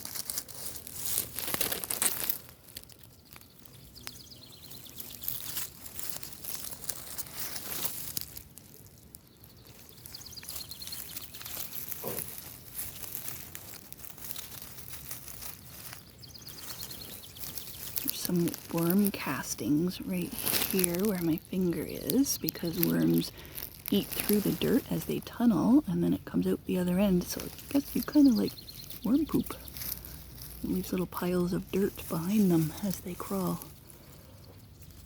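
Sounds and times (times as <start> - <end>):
rustling of dry ground cover: 0.0 - 35.0.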